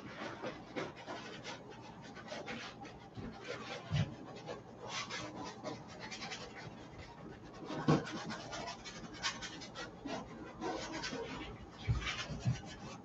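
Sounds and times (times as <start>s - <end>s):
paintbrush scratching on canvas: 0.0s - 13.0s.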